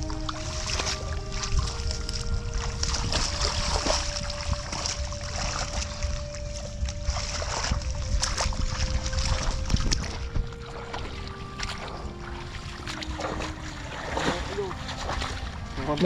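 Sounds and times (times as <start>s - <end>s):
slow held-note music: 0.0s - 16.0s
water splashes and knocks: 0.0s - 16.0s.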